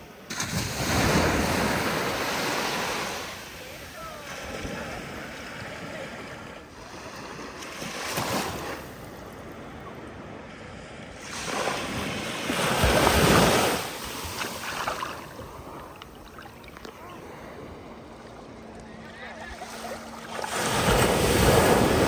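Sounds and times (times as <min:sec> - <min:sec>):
sea waves washing in: 0:00.0 - 0:22.0.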